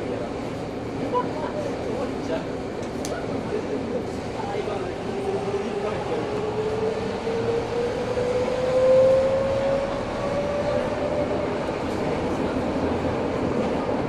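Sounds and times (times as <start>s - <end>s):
wheels rumbling on rails: 0.0s - 14.0s.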